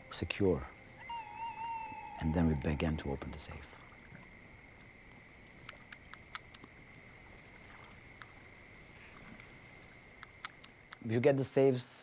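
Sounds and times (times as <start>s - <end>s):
faint high-pitched hum: 0.0s - 12.0s.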